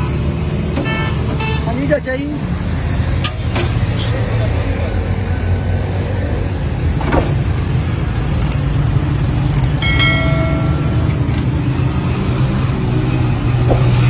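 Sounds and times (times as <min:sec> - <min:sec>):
road traffic engines: 0:00.0 - 0:14.0.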